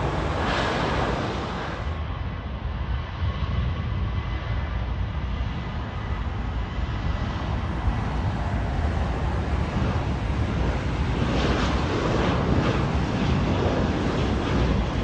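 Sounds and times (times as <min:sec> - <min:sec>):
jet engines at takeoff thrust: 0:00.0 - 0:15.0
wind rumble on microphone: 0:00.0 - 0:15.0.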